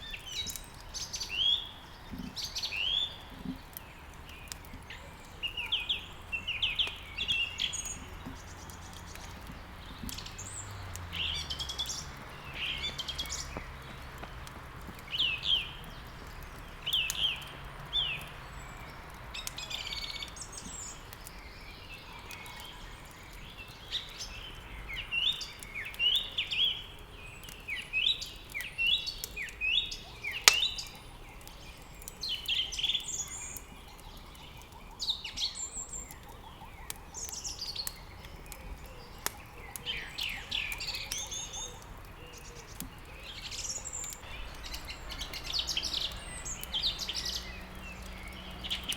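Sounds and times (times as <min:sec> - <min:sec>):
songbirds chirping: 0:00.0 - 0:48.9
wood fire crackling: 0:00.0 - 0:48.9.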